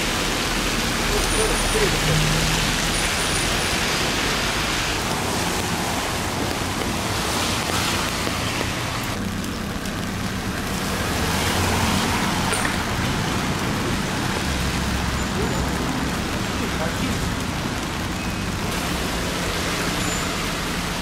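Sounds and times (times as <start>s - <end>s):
steady rain: 0.0s - 21.0s
traffic hissing on wet street: 0.0s - 21.0s.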